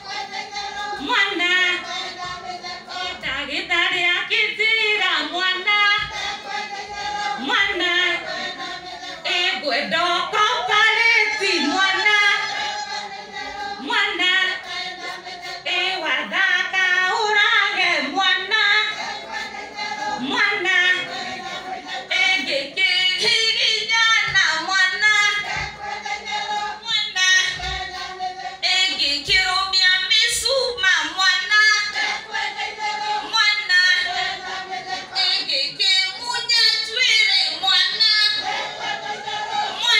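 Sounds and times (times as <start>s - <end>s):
group of women singing: 0.0s - 39.9s.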